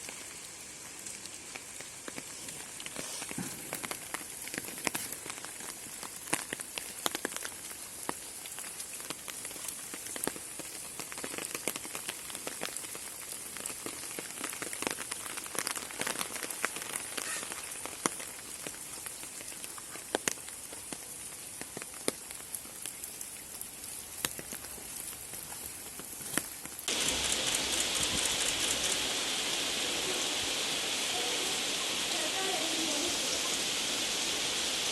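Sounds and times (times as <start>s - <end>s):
raindrops ticking close by: 0.0s - 34.9s
steady rain falling: 0.0s - 34.9s.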